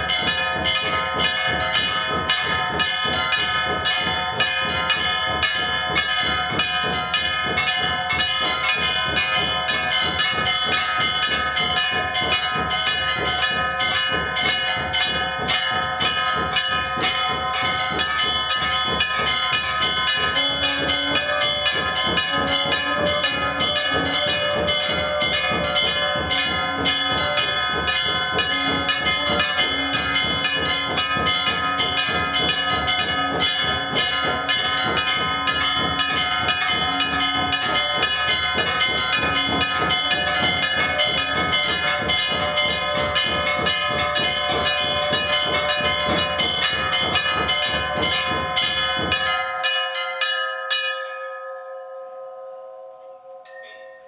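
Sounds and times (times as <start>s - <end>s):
temple bells ringing rapidly: 0.0s - 54.0s.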